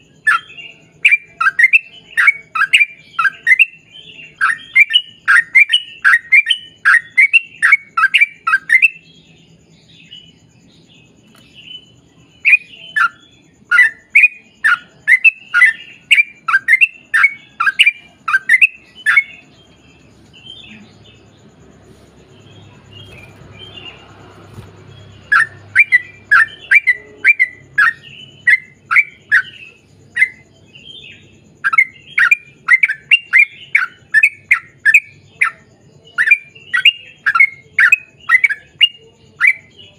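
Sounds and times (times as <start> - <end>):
bulbul singing: 0.0 - 39.9
faint low hum: 0.0 - 39.9.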